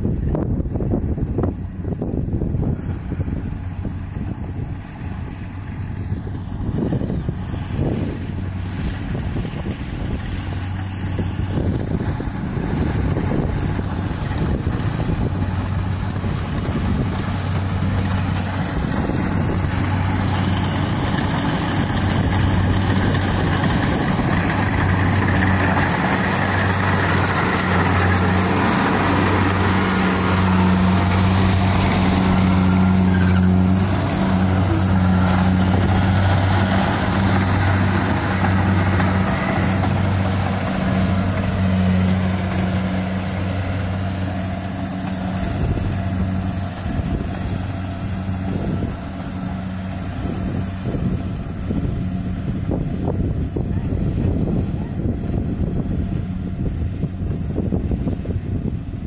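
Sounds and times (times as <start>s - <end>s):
combine harvester engine drone: 0.0s - 59.0s
cutting and threshing noise: 0.0s - 59.0s.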